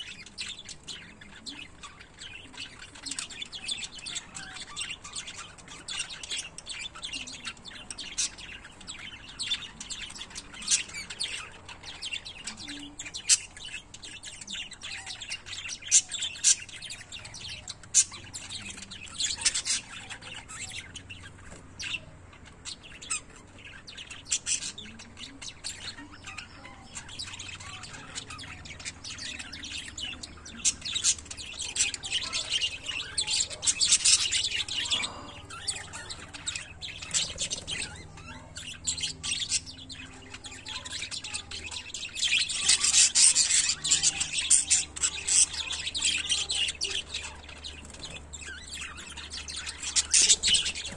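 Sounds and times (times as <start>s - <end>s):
parrots chirping: 0.0s - 50.9s.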